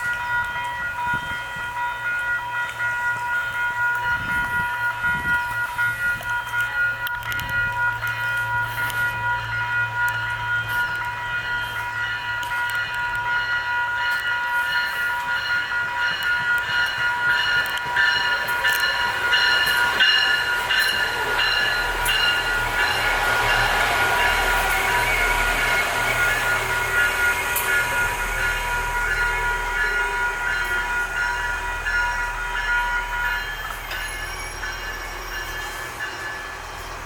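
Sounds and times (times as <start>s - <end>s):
railroad crossing bells ringing: 0.0s - 37.0s
train passing: 0.0s - 37.0s.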